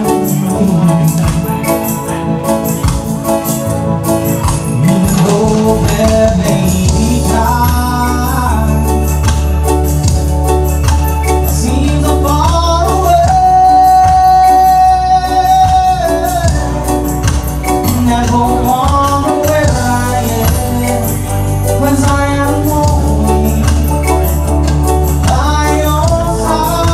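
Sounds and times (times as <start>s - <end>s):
man singing: 0.0s - 2.6s, 4.4s - 10.0s, 11.3s - 26.9s
reggae band playing: 0.0s - 26.9s.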